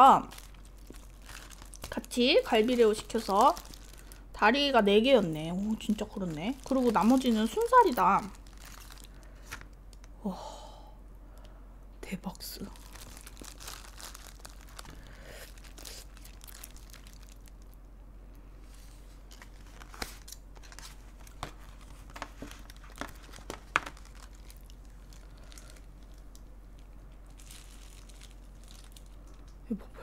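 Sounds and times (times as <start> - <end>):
plastic gloves and foil crinkling: 0.0 - 10.1, 12.4 - 17.8, 18.6 - 29.6.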